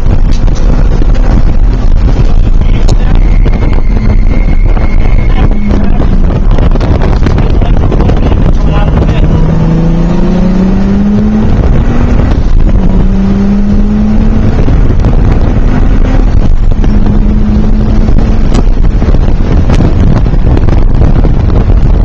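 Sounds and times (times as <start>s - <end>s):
car engine accelerating: 0.0s - 22.0s
road and wind noise: 0.0s - 22.0s.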